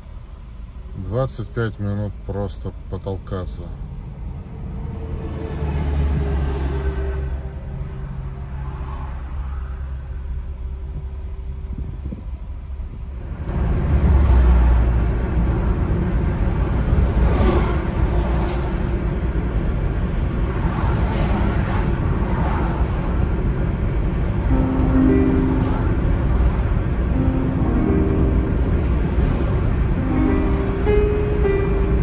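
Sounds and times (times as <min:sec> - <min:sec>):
rushing road noise: 0:00.0 - 0:32.0.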